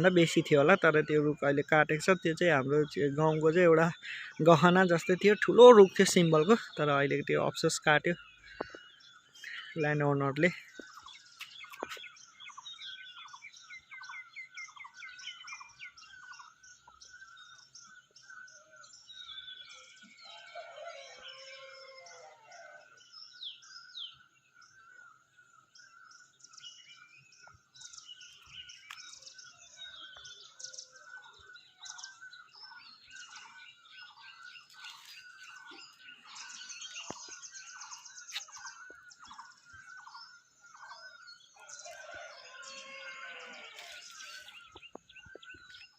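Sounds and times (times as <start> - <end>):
birds chirping and trilling: 0.0 - 45.9.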